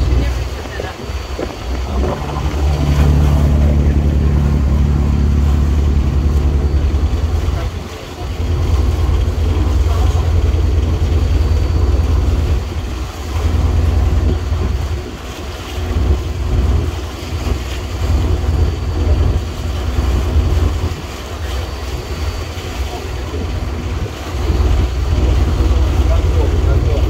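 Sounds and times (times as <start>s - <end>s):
boat engine running: 0.0s - 27.0s
wind buffeting microphone: 0.0s - 27.0s.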